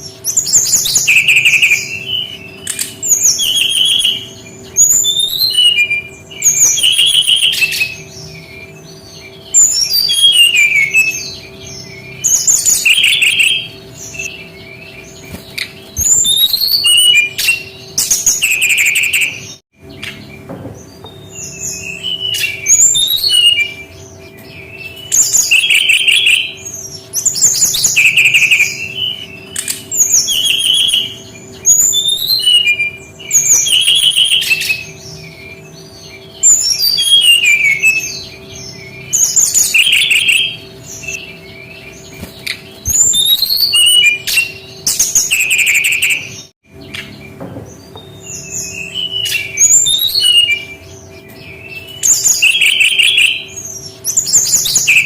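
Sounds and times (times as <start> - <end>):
bird chirps and trills: 0.0 - 55.0.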